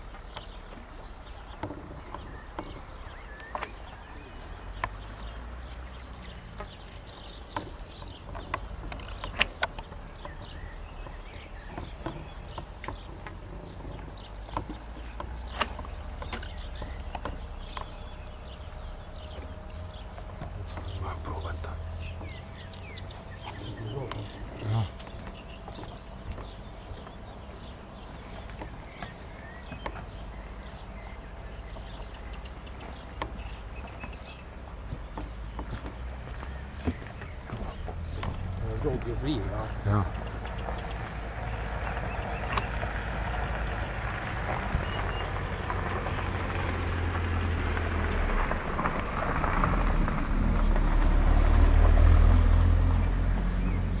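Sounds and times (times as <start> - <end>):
birds chirping: 0.0 - 54.0
steady low rumble: 0.0 - 54.0.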